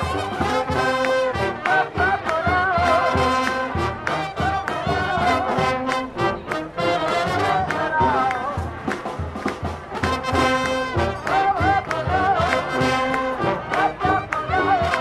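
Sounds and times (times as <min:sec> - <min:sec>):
brass band playing: 0:00.0 - 0:15.0
percussion hits: 0:00.0 - 0:15.0.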